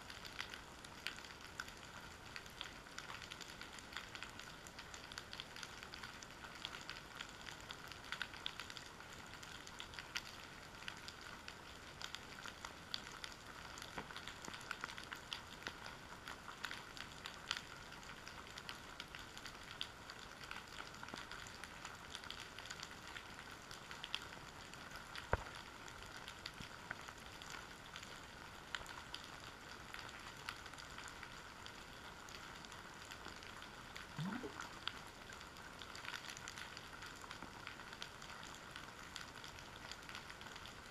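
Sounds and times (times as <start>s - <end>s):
underwater crackle of clicks: 0.2s - 21.6s, 23.9s - 29.3s, 32.3s - 40.9s.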